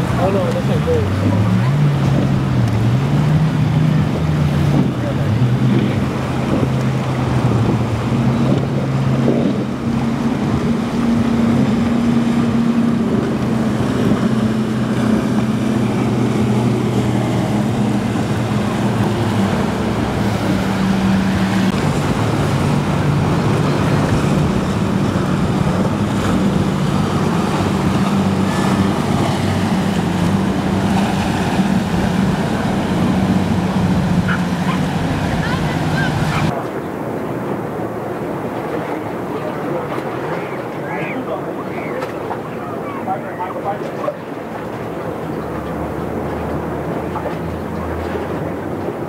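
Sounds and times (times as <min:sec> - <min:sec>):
motorboat engines droning: 0:00.0 - 0:49.0
rushing water: 0:00.0 - 0:49.0
wind noise on microphone: 0:00.0 - 0:49.0.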